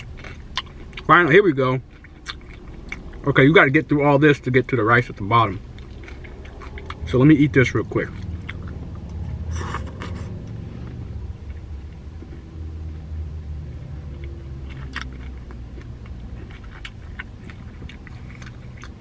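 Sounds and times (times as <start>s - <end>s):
person chewing cabbage: 0.0s - 3.8s, 5.0s - 19.0s.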